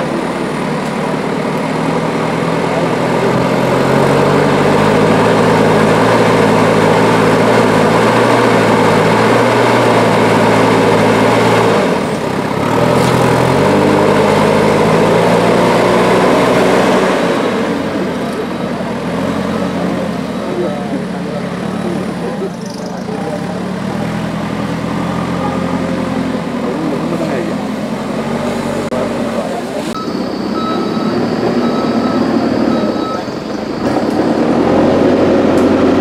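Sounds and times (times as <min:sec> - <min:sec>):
heavy vehicle engine running: 0:00.0 - 0:36.0.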